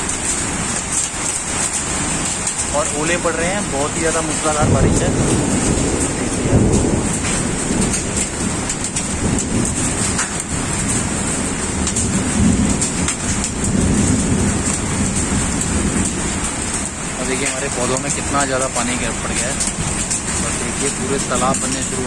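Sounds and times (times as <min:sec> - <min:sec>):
hailstones ticking: 0:00.0 - 0:22.0
heavy rain hissing: 0:00.0 - 0:22.0
low rumbling: 0:02.0 - 0:22.0.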